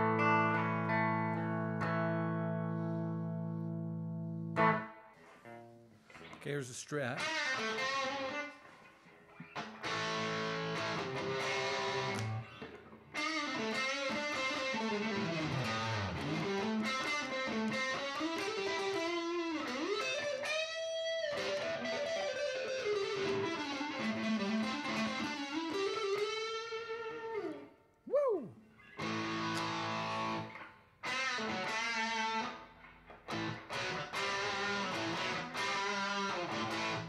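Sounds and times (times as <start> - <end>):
distorted electric guitar lead: 0.0 - 5.6, 7.1 - 8.8, 9.4 - 27.7, 28.8 - 37.0.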